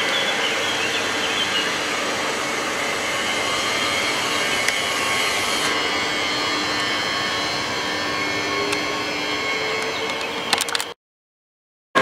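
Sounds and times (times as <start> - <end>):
steady tones: 0.0 - 10.5.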